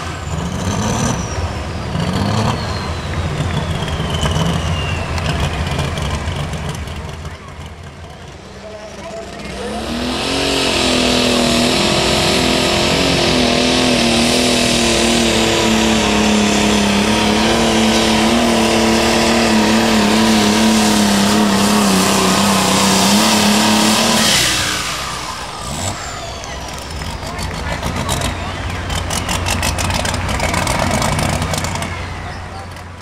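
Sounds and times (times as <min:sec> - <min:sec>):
tractor engine revving high: 0:00.0 - 0:33.0.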